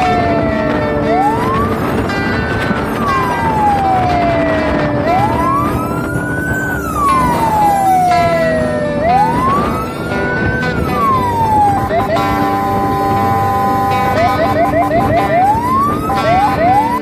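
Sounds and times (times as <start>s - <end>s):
road noise: 0.0s - 17.0s
siren wailing: 0.0s - 17.0s.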